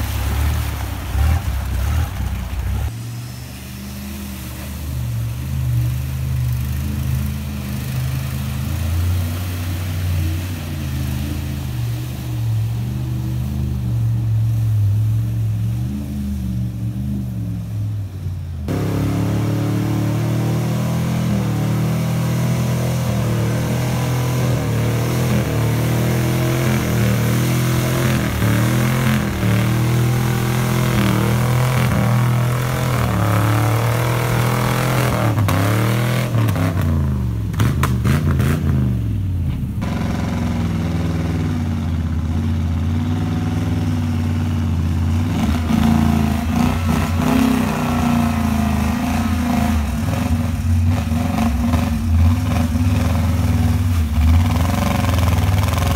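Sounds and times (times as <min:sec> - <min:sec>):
truck engines revving: 0:00.0 - 0:55.9
wheels churning through mud: 0:00.0 - 0:55.9.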